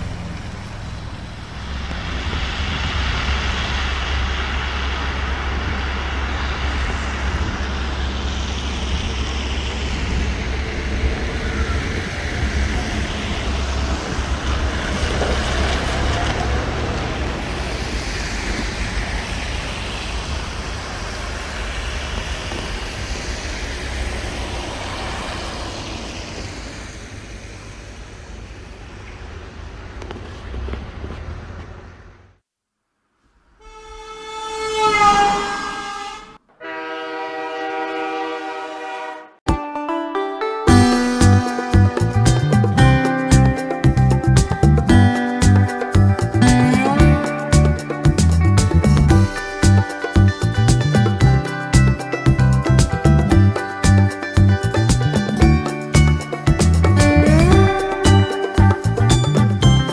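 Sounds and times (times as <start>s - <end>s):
low traffic rumble: 0.0s - 32.4s, 40.7s - 59.9s
vehicles passing: 0.0s - 32.4s, 33.3s - 39.2s, 40.7s - 59.9s.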